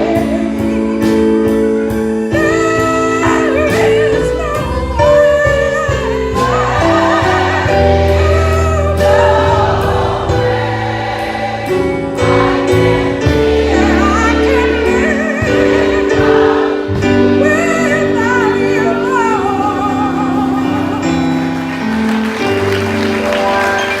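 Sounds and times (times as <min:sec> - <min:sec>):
choir singing gospel: 0:00.0 - 0:24.0.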